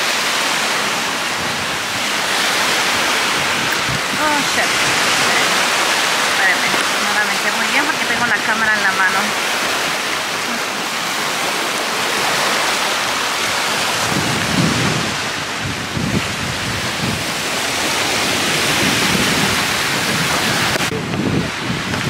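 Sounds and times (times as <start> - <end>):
steady wind hiss: 0.0 - 8.3, 9.0 - 22.0
waves lapping against rocks: 0.0 - 22.0
wind buffeting microphone: 0.0 - 22.0.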